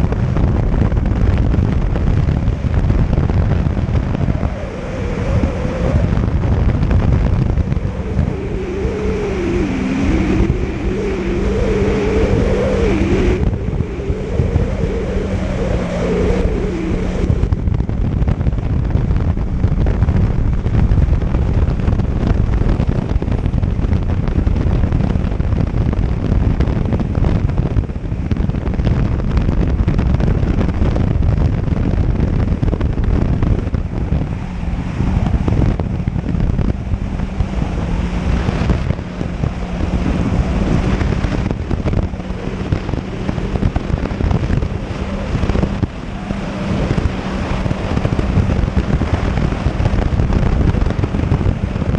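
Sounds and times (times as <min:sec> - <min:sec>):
jet ski engine hum: 0:00.0 - 0:51.9
wind buffeting microphone: 0:00.0 - 0:51.9.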